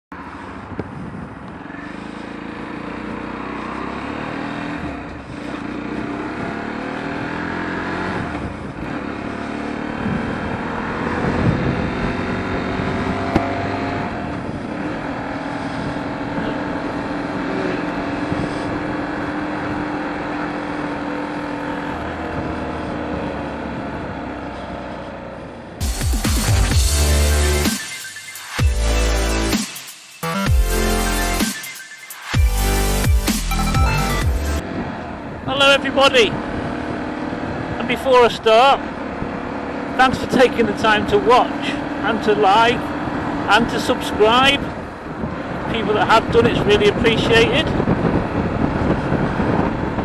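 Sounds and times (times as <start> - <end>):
motorcycle engine running: 0.4 - 27.8, 32.3 - 50.0.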